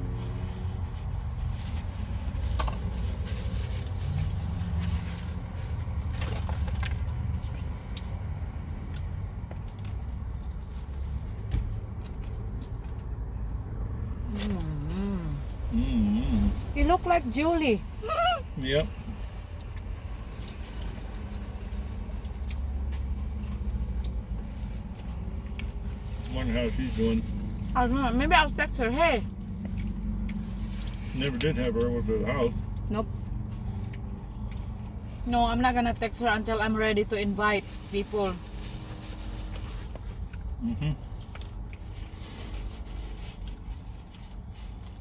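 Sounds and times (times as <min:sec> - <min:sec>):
car interior rumble: 0:00.0 - 0:45.0.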